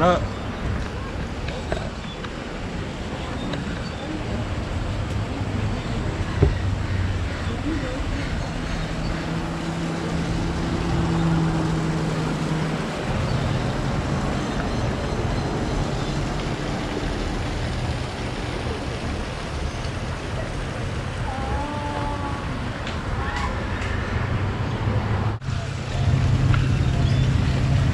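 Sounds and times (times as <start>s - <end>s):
road traffic noise: 0.0s - 27.9s
vehicle engine low hum: 0.0s - 27.9s.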